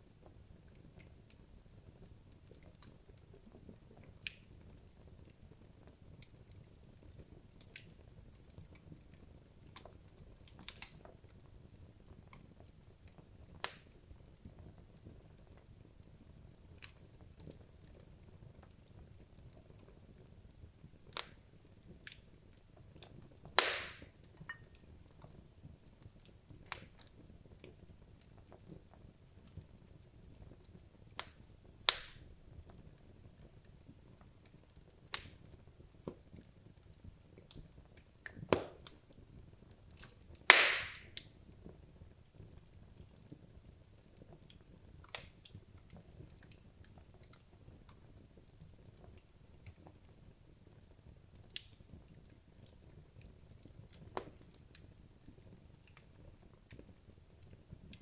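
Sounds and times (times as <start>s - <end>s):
faint low fire rumble: 0.0s - 58.0s
fire crackling and popping: 0.0s - 58.0s.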